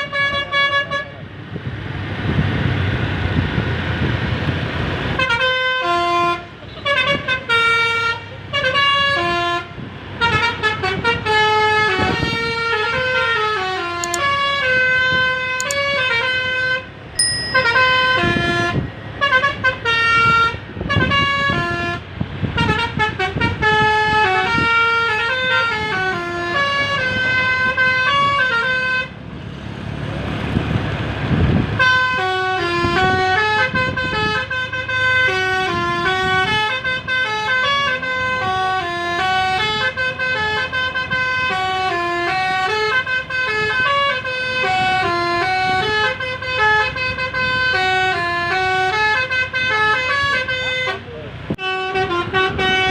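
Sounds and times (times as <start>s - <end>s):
musical bus horn melody: 0.0s - 1.2s, 5.1s - 29.2s, 31.8s - 52.9s.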